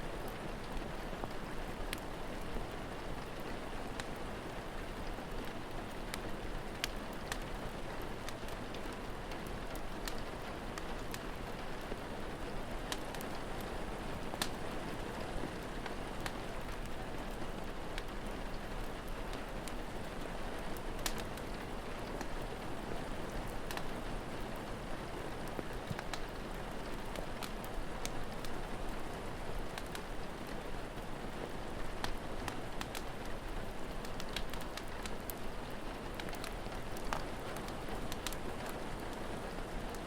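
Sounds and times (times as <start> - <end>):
rain falling: 0.0 - 40.0
wood fire crackling and popping: 0.2 - 40.0.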